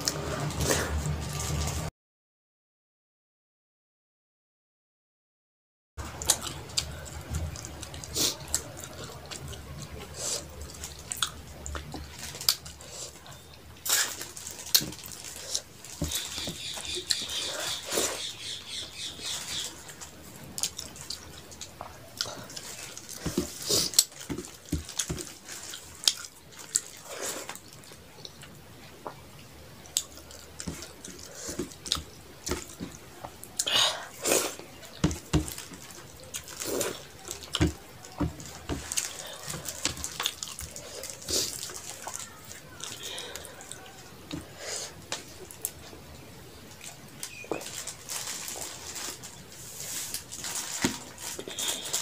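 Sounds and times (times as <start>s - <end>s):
wet chewing: 6.0s - 52.0s.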